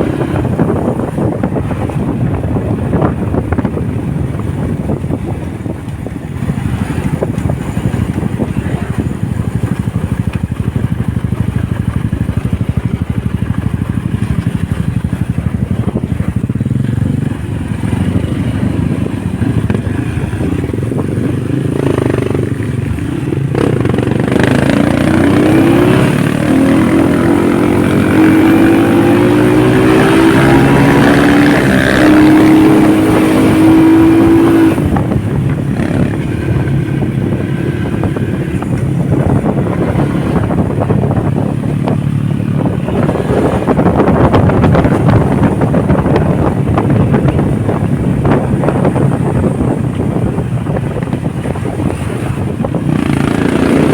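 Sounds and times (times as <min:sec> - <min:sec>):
motorcycle engine accelerating: 0:00.0 - 0:53.9
wind noise on microphone: 0:00.0 - 0:53.9.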